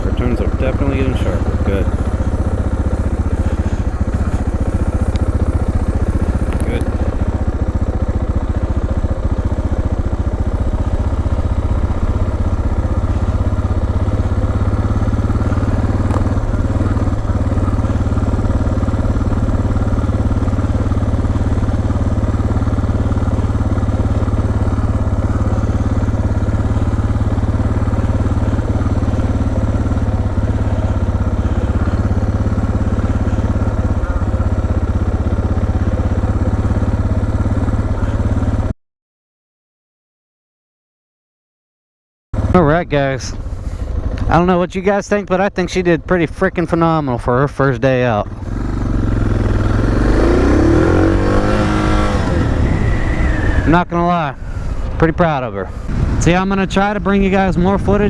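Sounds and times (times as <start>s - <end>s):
motorcycle engine idling: 0.0s - 38.7s, 42.4s - 44.6s, 47.9s - 53.8s.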